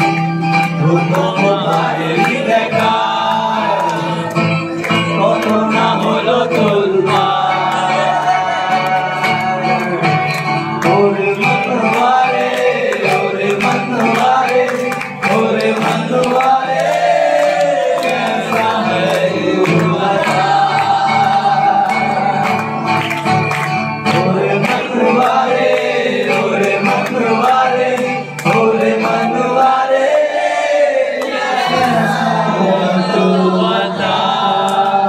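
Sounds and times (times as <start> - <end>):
man singing into microphone: 0.0 - 22.8, 24.0 - 35.0
acoustic guitar strumming: 0.0 - 35.0.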